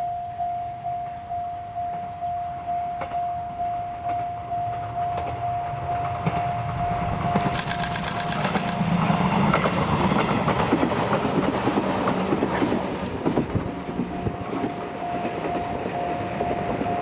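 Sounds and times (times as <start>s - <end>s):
train rumble and wheel clicks: 1.9s - 17.0s.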